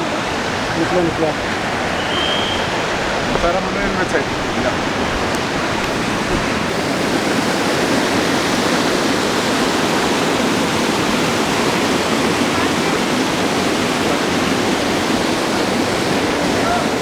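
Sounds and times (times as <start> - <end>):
mountain water rushing: 0.0 - 17.0.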